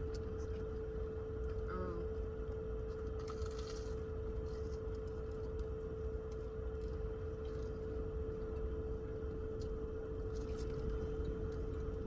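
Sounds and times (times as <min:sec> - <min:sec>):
constant mid-pitched tone: 0:00.0 - 0:12.0
steady low hum: 0:00.0 - 0:12.0.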